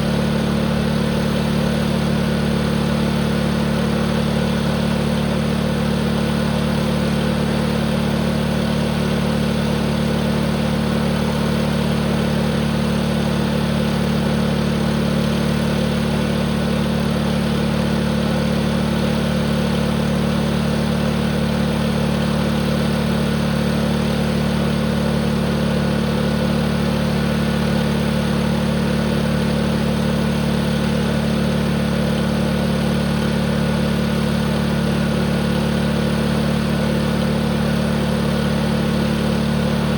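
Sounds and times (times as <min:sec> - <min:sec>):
tractor engine running steadily: 0:00.0 - 0:39.9.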